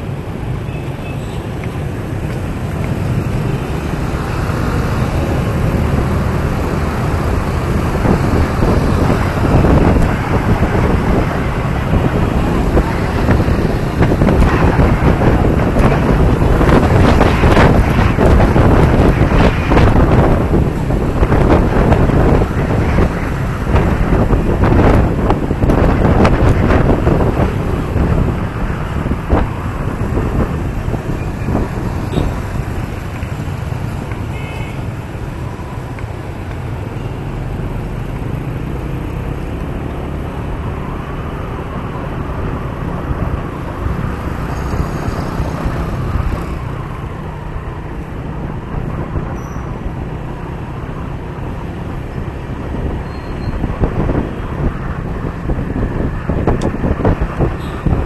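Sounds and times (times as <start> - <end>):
other vehicles passing: 0.0 - 58.0
wind noise on microphone: 0.0 - 58.0.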